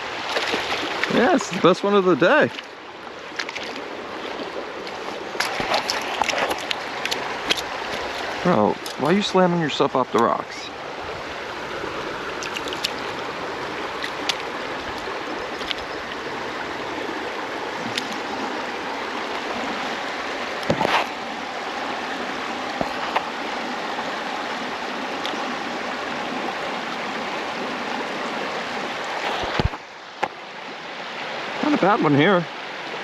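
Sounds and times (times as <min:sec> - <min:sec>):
creek water running over rocks: 0:00.0 - 0:33.0.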